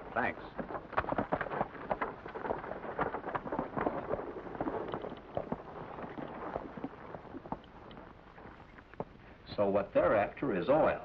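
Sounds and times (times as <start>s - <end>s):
wheels rattling over dirt road: 0.0s - 9.3s
horse hoofbeats: 0.0s - 11.0s.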